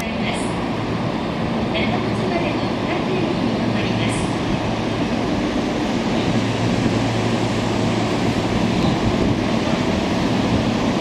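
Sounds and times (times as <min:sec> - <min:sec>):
electric train rumbling to a stop: 0:00.0 - 0:11.0.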